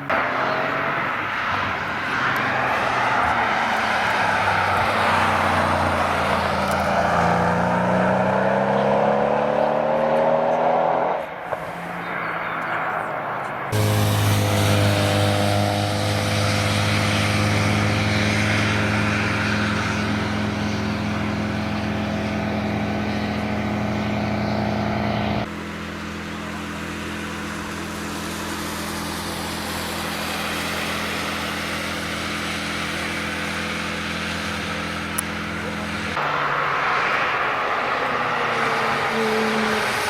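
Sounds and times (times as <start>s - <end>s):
car engine running: 0.0s - 40.0s
quieter car engine: 0.0s - 40.0s.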